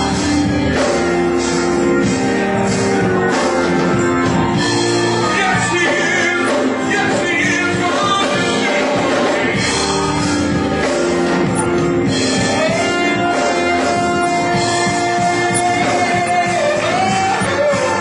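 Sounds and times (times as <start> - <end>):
worship band playing: 0.0 - 18.0
people singing: 3.2 - 18.0.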